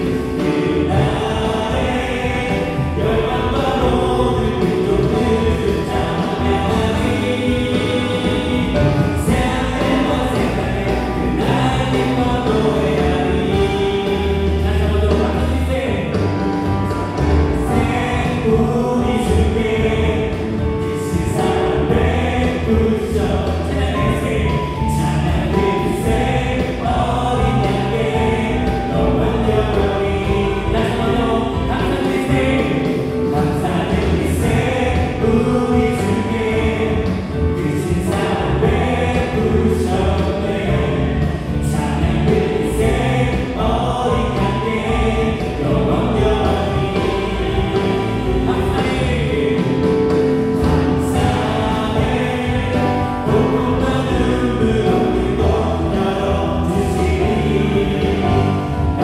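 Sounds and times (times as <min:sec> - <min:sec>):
drum kit steady beat: 0:00.0 - 0:59.0
voices singing: 0:00.0 - 0:59.0
worship band playing: 0:00.0 - 0:59.0.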